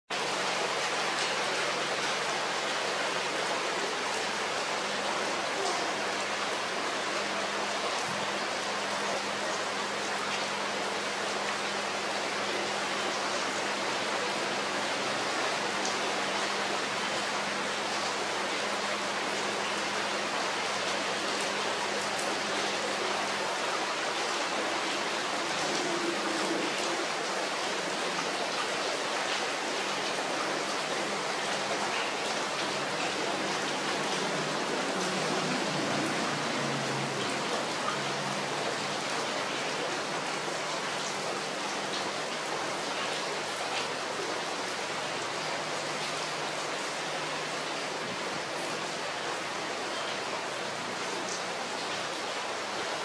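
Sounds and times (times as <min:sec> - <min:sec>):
heavy rain on trees: 0:00.1 - 0:53.0.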